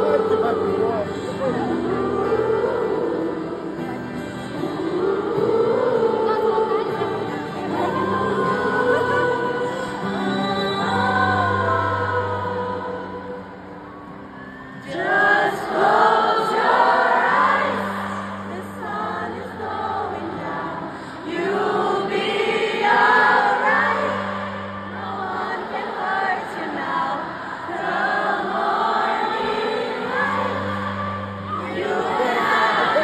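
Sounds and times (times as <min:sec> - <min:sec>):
acoustic guitar: 0:00.0 - 0:33.0
crowd singing along: 0:00.0 - 0:33.0
woman singing: 0:00.0 - 0:33.0.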